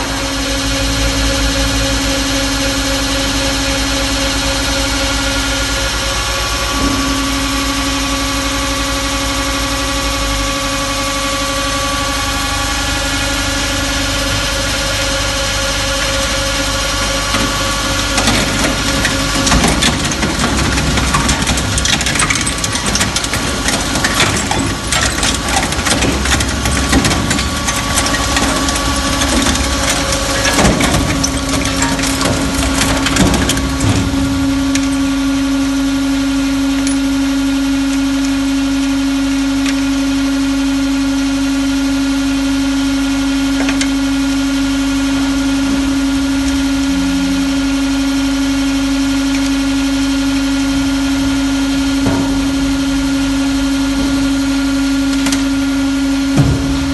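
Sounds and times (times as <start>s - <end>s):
hydraulic power unit humming: 0.0s - 56.9s
metal cracking and crunching: 4.9s - 40.4s, 43.1s - 56.9s.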